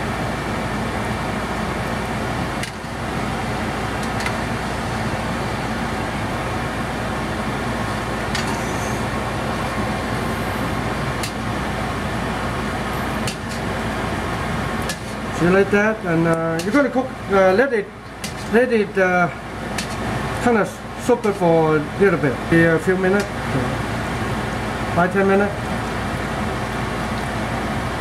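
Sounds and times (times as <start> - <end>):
kitchen exhaust fan hum: 0.0 - 28.0.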